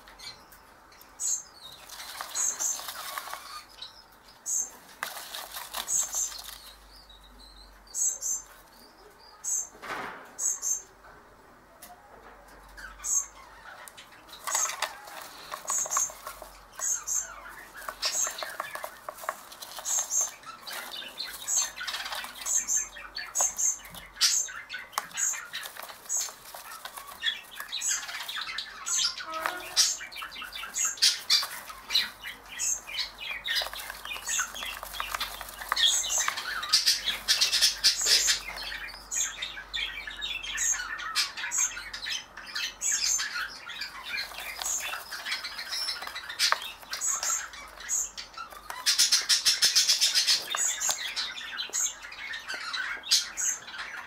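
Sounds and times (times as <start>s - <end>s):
budgerigar chicks begging calls: 0.2s - 8.5s, 12.8s - 54.0s.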